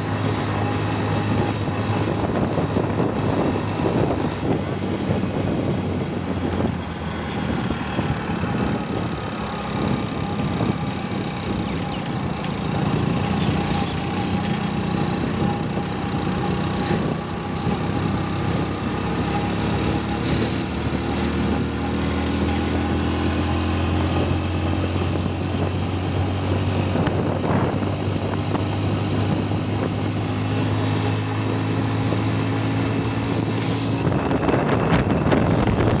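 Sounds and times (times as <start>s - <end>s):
road and wind noise: 0.0s - 36.0s
vehicle engine running: 0.0s - 36.0s.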